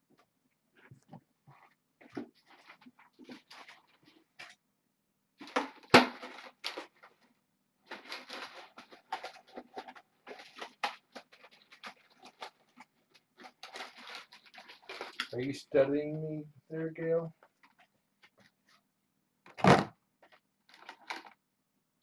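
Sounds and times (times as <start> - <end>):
rustling and scraping handling noise: 0.0 - 4.6, 5.4 - 18.9, 20.2 - 21.4.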